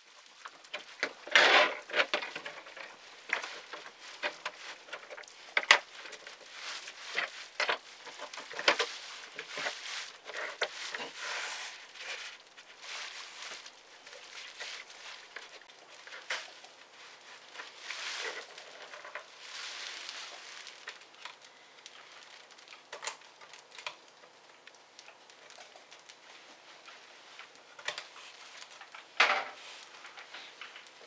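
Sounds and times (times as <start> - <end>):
plastic parts rustling and clicking: 0.0 - 31.0.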